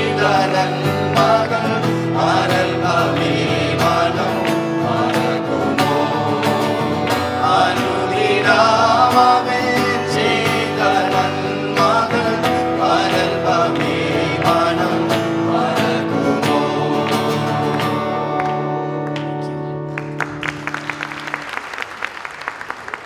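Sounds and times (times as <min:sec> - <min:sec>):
group singing worship song: 0:00.0 - 0:18.5
strummed acoustic guitar: 0:00.0 - 0:20.0.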